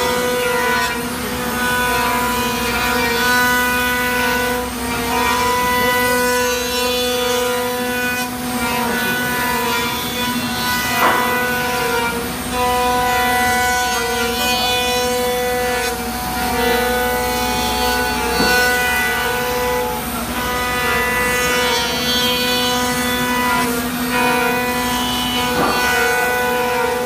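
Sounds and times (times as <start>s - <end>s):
router spindle cutting wood: 0.0s - 27.0s.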